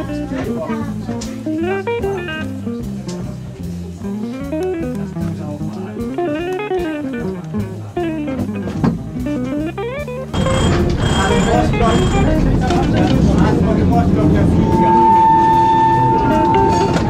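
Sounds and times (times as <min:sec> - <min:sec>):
guitar playing quick runs: 0:00.0 - 0:17.0
steady bass line: 0:00.0 - 0:17.0.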